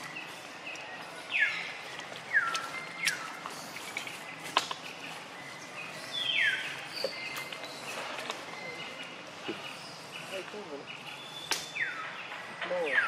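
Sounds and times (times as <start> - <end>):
birds whistling: 0.0 - 13.0
outdoor ambience: 0.0 - 13.0.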